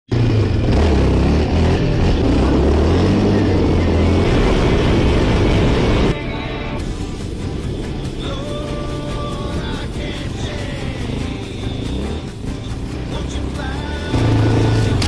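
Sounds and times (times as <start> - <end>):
off-road vehicle engine running: 0.1 - 15.0.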